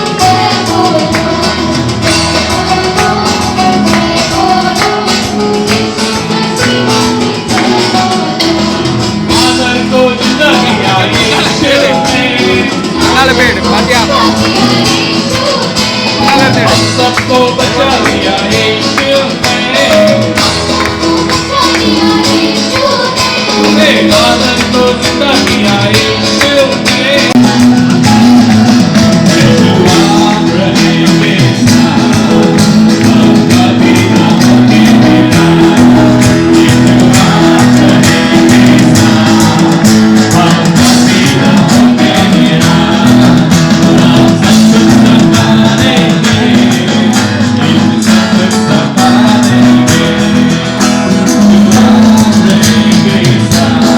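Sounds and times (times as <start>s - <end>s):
loud music with beat: 0.0s - 53.9s
person singing: 0.0s - 53.9s.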